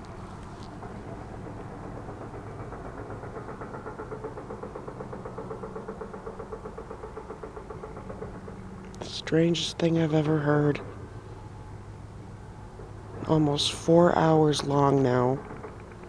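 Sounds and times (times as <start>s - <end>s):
distant pulsing thumps: 0.0s - 13.4s
low steady hum: 0.0s - 16.0s.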